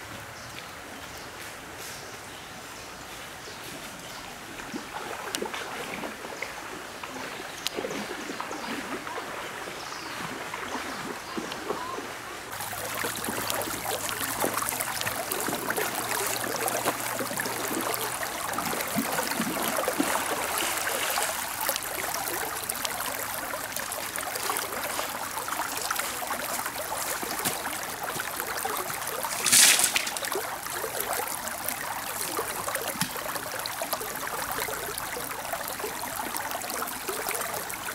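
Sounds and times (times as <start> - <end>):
stream rippling over stones: 0.0 - 37.9.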